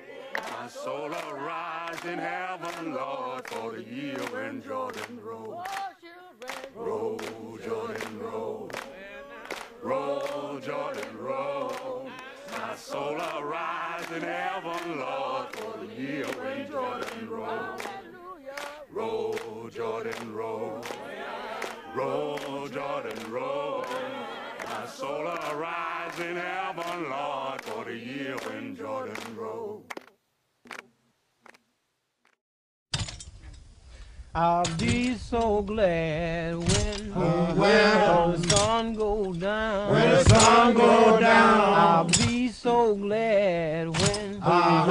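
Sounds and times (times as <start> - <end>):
group singing a cappella: 0.0 - 29.9, 34.5 - 44.9.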